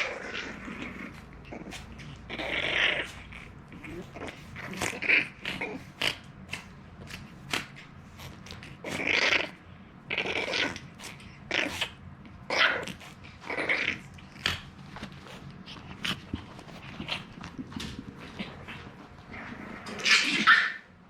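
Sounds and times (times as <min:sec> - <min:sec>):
puppy snuffling: 0:00.0 - 0:20.5.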